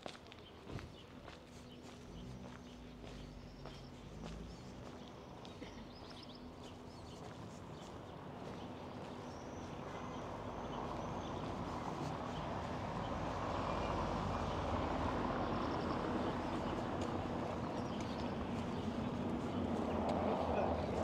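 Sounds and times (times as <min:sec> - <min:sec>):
road traffic noise: 0:00.1 - 0:21.0.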